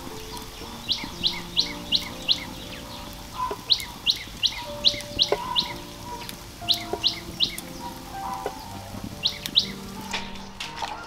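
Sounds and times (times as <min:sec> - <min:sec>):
bird singing rising chirps: 0:00.0 - 0:10.7.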